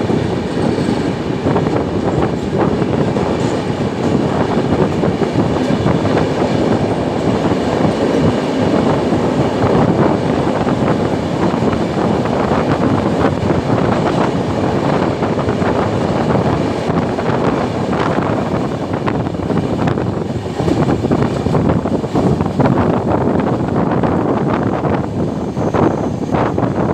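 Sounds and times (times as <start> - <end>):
wheels clicking over track: 0.0 - 23.2
train carriages rumbling: 0.0 - 26.9.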